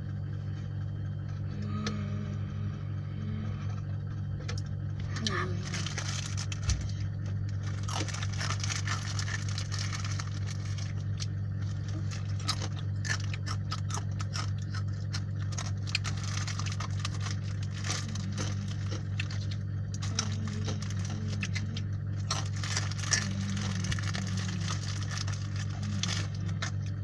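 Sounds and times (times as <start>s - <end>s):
steady low hum: 0.0s - 27.0s
snack crunching: 5.2s - 27.0s.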